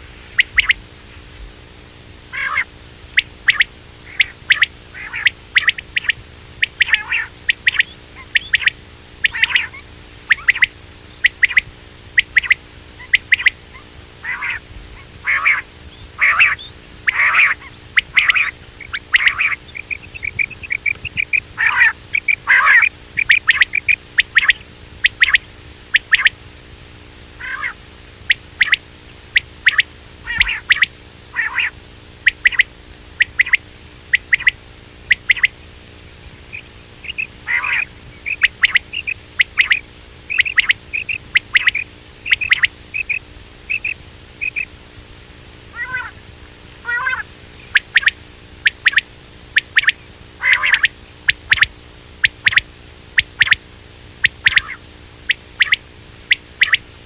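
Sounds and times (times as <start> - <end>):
quail calling: 0.0 - 0.8, 2.3 - 26.4, 27.4 - 35.6, 36.2 - 44.8, 45.7 - 53.6, 54.2 - 56.9
faint steady hum: 0.0 - 57.0.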